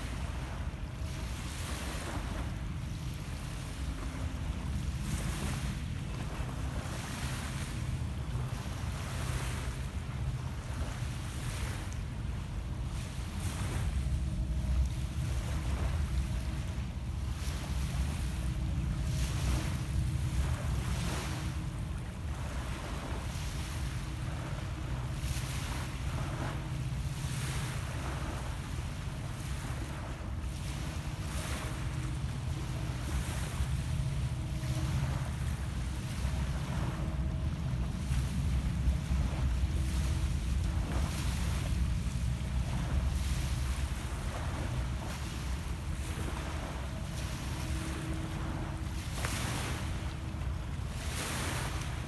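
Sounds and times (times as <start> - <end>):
waves lapping on stony shore: 0.0 - 52.0
wind rumble on microphone: 0.0 - 52.0.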